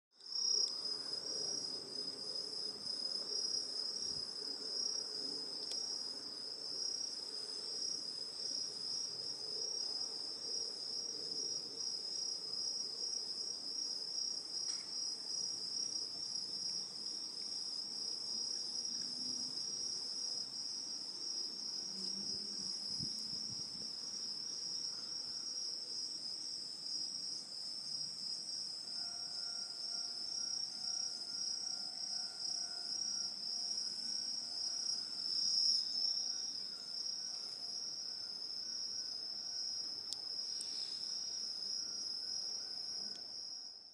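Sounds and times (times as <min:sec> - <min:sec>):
night insects chirping: 0:00.2 - 0:43.9.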